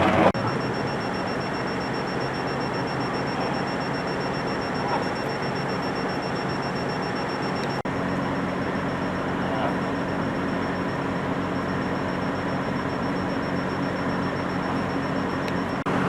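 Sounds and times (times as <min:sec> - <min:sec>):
street traffic: 0:00.0 - 0:16.0
vehicle engine idling: 0:00.0 - 0:16.0.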